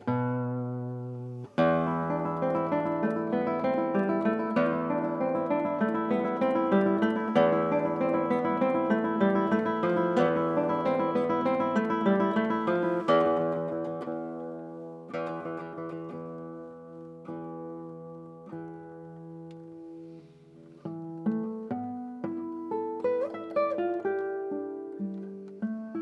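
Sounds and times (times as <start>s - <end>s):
fingerpicked classical guitar: 0.0s - 26.0s.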